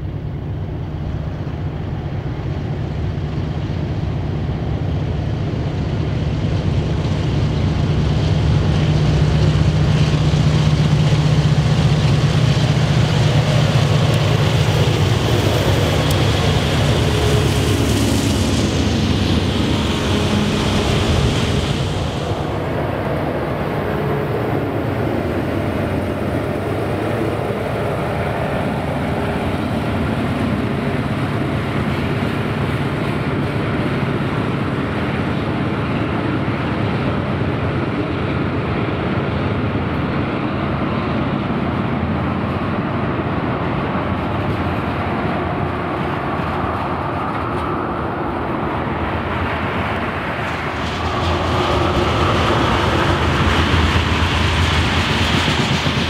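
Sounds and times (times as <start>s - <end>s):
diesel locomotive engine running: 0.0s - 56.0s
tank cars rumbling on rails: 0.0s - 56.0s.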